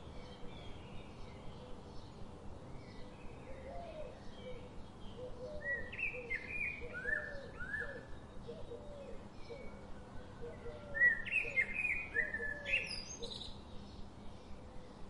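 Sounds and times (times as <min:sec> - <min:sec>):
steady background hiss: 0:00.0 - 0:15.0
wild birds chirping: 0:00.0 - 0:15.0.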